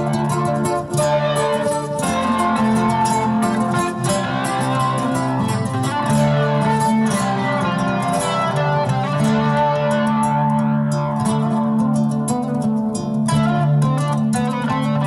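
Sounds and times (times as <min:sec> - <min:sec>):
nylon-string guitar playing: 0:00.0 - 0:15.0.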